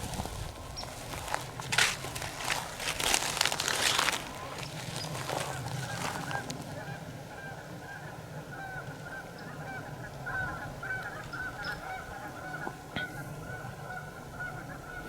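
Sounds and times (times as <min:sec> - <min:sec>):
geese honking: 0:00.8 - 0:15.0.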